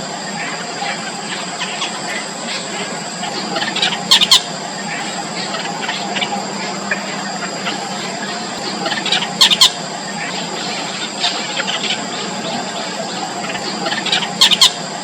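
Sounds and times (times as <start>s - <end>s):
high background drone: 0.0s - 15.0s.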